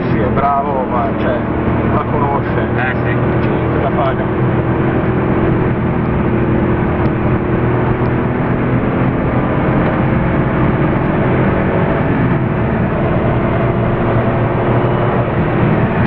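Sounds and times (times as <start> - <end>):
car engine pulling at steady revs: 0.0 - 16.0.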